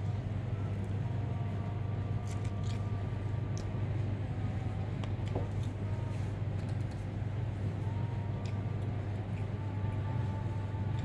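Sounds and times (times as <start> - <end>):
air conditioning hum: 0.0 - 11.0.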